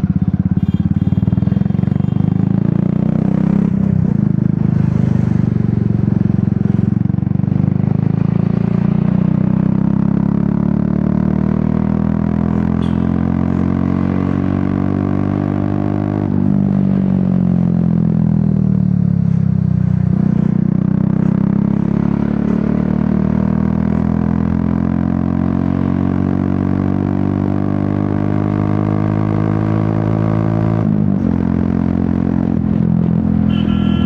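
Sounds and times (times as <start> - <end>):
motorcycle engine riding: 0.0 - 34.0.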